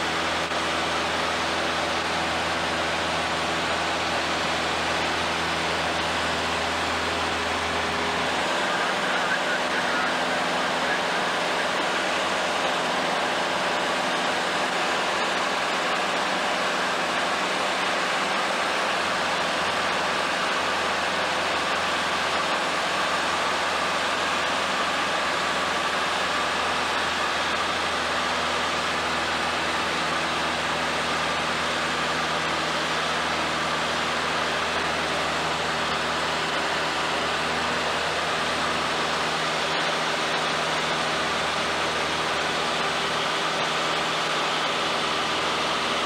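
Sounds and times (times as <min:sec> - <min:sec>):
propeller airplane engine running: 0:00.0 - 0:46.0.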